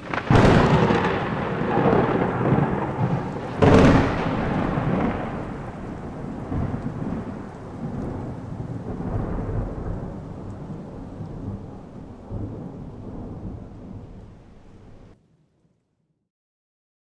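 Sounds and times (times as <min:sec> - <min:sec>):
rolling thunder: 0:00.0 - 0:15.2.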